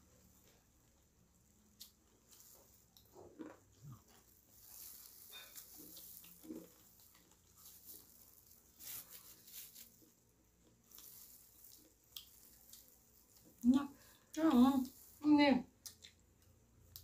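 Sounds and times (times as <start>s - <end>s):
people chewing: 0.4s - 15.2s.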